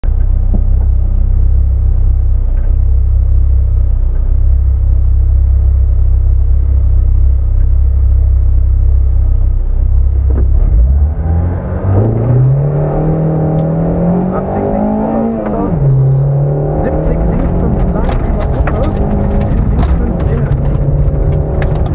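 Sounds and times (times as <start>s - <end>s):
car engine idling and revving: 0.0s - 21.9s.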